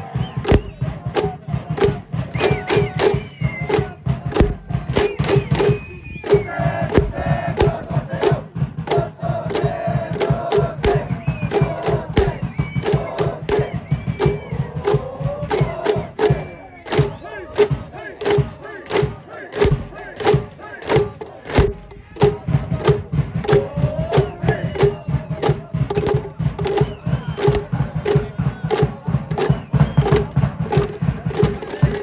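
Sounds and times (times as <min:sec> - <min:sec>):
crowd chanting and shouting: 0:00.0 - 0:32.0
drum beat: 0:00.0 - 0:32.0.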